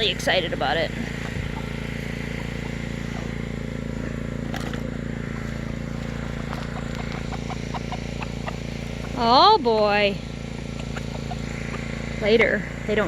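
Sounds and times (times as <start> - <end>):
generator engine hum: 0.0 - 13.0.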